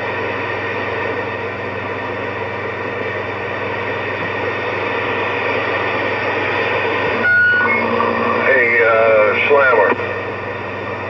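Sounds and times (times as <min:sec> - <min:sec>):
radio speaker hiss with hum: 0:00.0 - 0:11.0.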